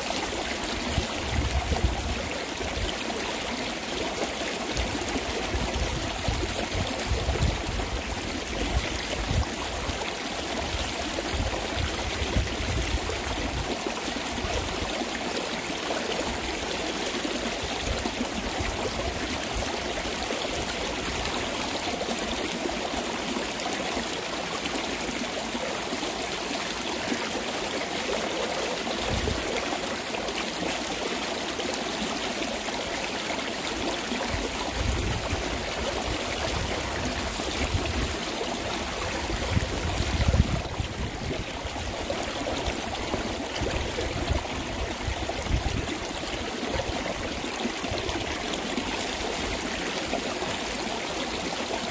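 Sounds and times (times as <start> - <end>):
mountain stream running over rocks: 0.0 - 51.9.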